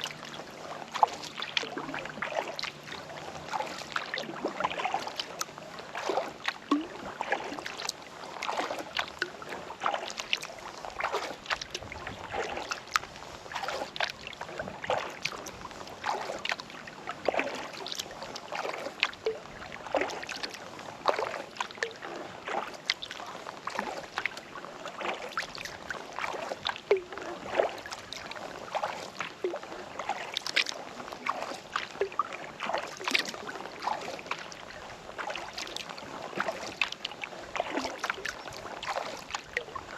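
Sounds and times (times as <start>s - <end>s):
kayak paddle splashing water: 0.0s - 39.9s.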